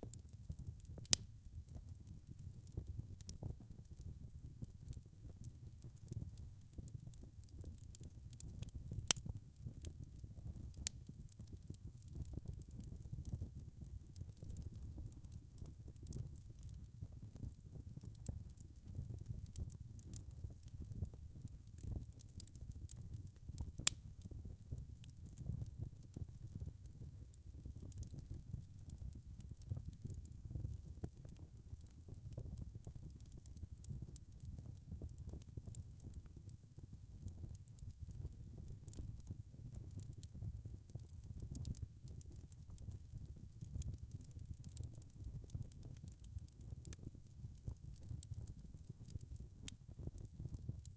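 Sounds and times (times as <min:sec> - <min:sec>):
wood fire rumbling and crackling: 0:00.0 - 0:50.9
fire popping: 0:00.1 - 0:36.4, 0:37.1 - 0:50.9.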